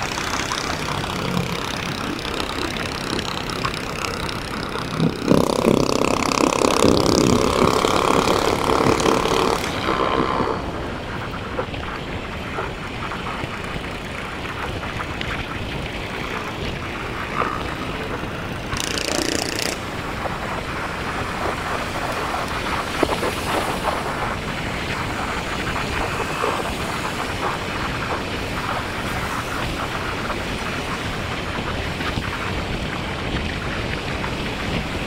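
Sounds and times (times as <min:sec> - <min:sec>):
motorcycle riding noise: 0:00.0 - 0:35.0
wind on microphone: 0:00.0 - 0:35.0.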